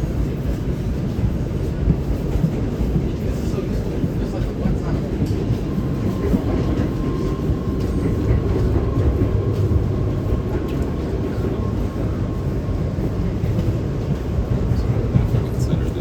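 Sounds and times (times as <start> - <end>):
rumble of wheels on rail: 0.0 - 16.0.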